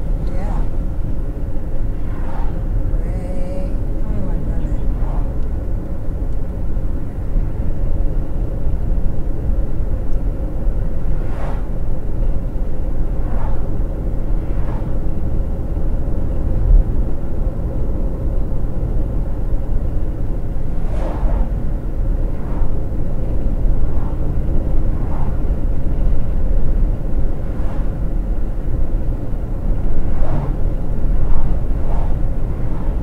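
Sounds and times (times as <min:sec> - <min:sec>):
car cabin road rumble: 0:00.0 - 0:33.0
passing vehicle whoosh: 0:00.0 - 0:33.0.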